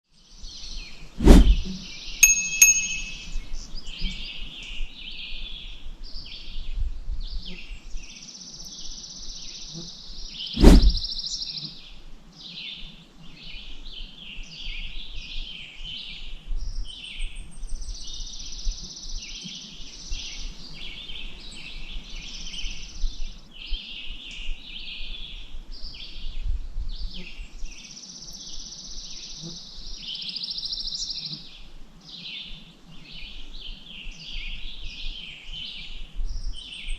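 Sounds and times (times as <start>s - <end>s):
songbirds chirping and trilling: 0.1s - 36.9s.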